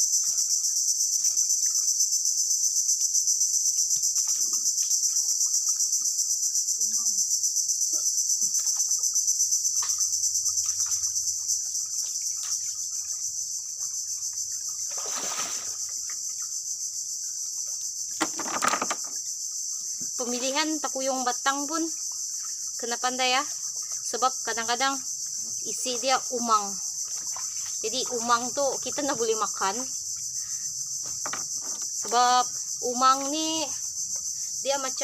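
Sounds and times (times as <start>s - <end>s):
shrill pulsing insect chorus: 0.0s - 35.0s.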